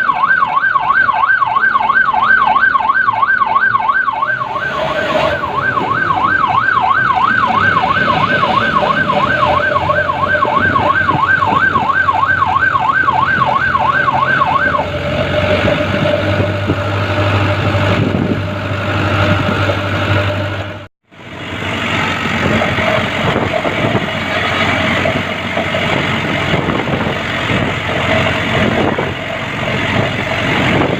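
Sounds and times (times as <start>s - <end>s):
siren warbling: 0.0s - 30.9s
truck engine droning: 0.0s - 30.9s.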